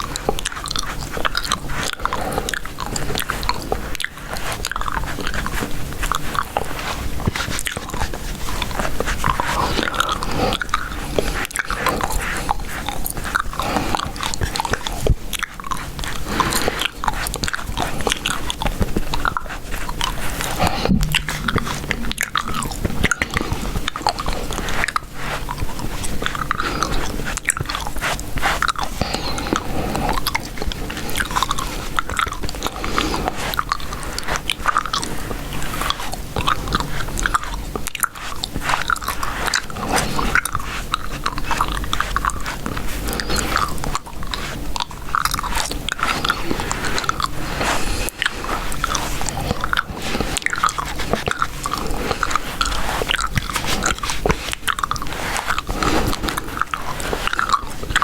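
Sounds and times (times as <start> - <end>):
gum chewing: 0.0 - 58.0.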